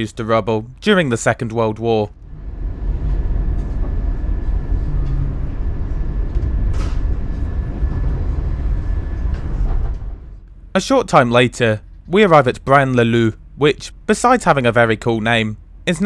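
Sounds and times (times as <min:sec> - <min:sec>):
faint steady whine: 0:00.0 - 0:16.0
train interior rumble: 0:02.1 - 0:16.0.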